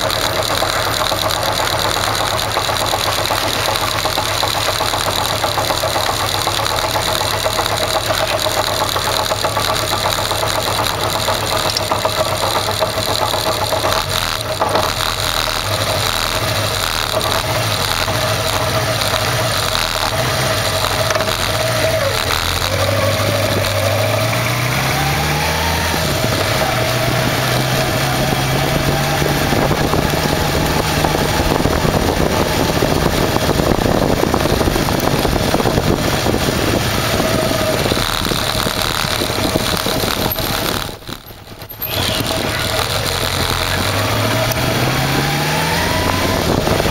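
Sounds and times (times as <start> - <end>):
motorcycle engine running: 0.0 - 46.9
steady rushing noise: 0.0 - 46.9.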